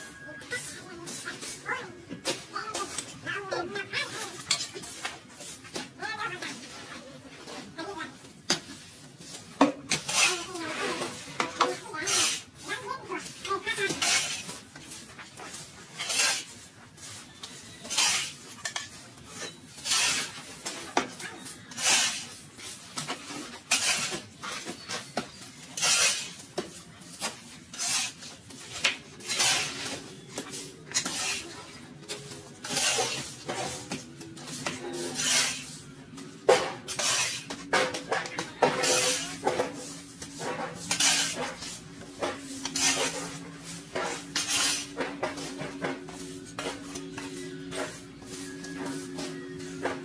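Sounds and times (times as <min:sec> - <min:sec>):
rhythmic scraping: 0:09.4 - 0:50.0.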